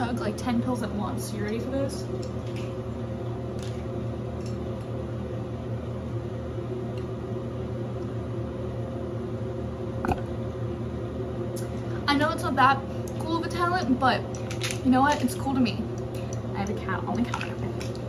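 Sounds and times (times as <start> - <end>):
exhaust fan humming: 0.0 - 18.0.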